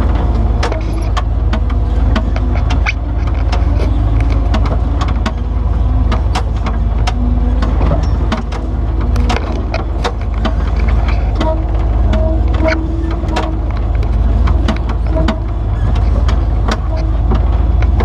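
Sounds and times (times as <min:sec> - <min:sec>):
engine running low: 0:00.0 - 0:18.0
vehicle rattling over rock: 0:00.0 - 0:18.0.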